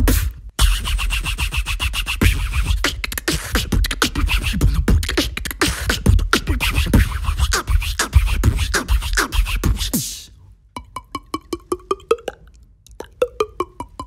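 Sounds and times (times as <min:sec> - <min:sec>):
beatboxing mouth clicks: 0:00.0 - 0:14.0.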